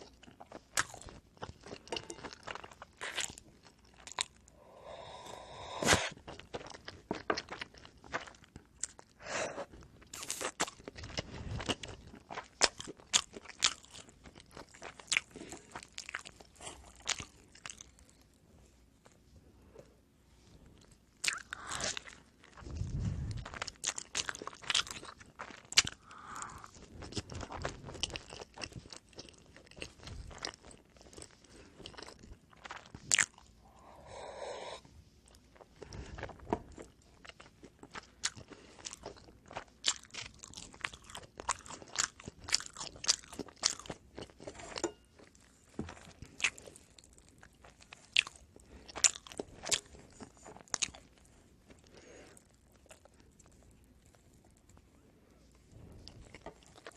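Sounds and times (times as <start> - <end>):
crunchy chewing of bread: 0.0 - 19.9, 20.5 - 56.9.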